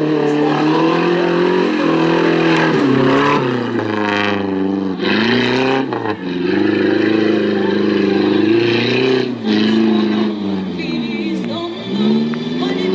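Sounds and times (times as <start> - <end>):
buggy engine revving: 0.0 - 12.9.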